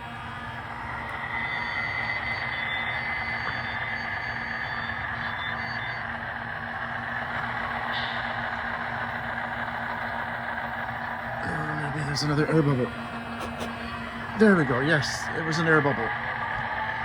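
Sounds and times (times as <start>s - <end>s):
diesel engine running: 0.0s - 17.0s
fans whirring: 0.0s - 17.0s.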